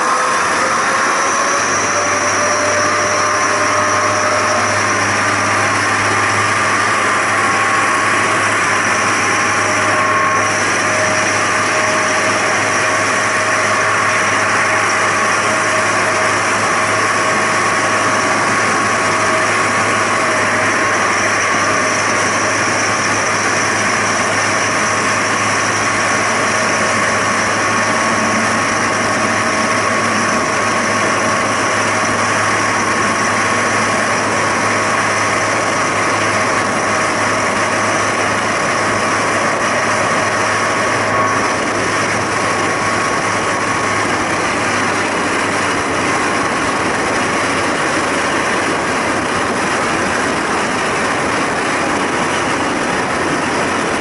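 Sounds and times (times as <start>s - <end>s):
diesel railcar engine drone: 0.0s - 54.0s
train running noise: 0.0s - 54.0s.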